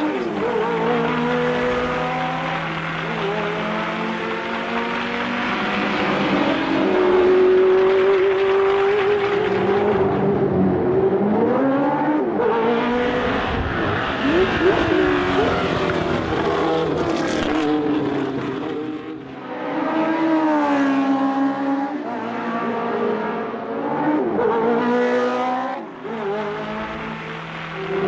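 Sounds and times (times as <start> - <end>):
racing car engines passing by: 0.0 - 28.0.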